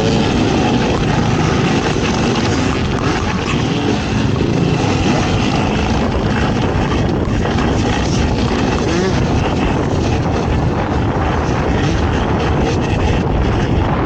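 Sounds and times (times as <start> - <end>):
atv engine running hard: 0.0 - 14.0
dense rushing noise: 0.0 - 14.0.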